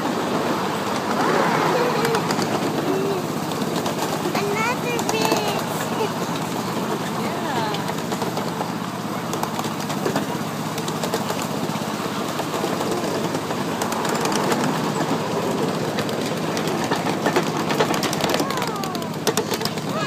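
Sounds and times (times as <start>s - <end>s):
miniature train wheels rumbling: 0.0s - 20.0s
wheels clicking over rail joints: 0.0s - 20.0s.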